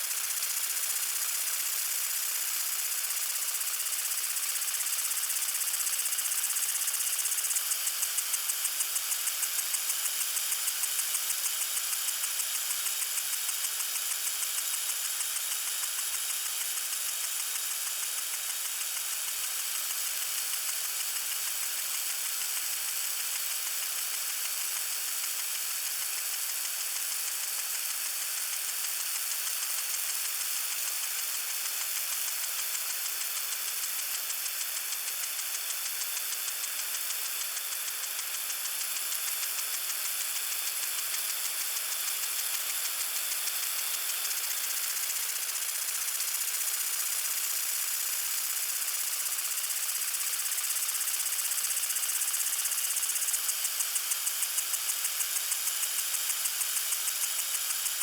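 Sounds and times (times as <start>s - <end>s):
lawn sprinkler spraying water: 0.0s - 58.0s.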